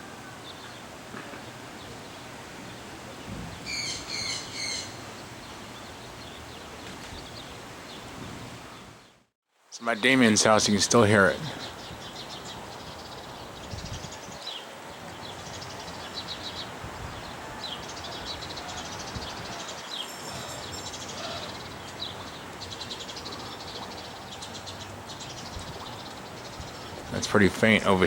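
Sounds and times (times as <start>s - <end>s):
rural background hiss: 0.0s - 28.0s
small birds chirping: 0.0s - 28.0s.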